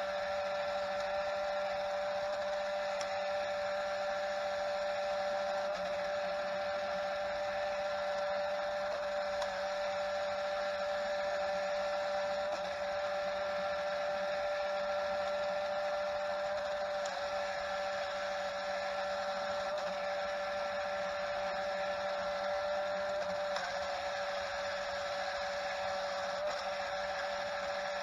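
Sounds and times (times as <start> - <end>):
motor and plastic gears whining: 0.0 - 28.0.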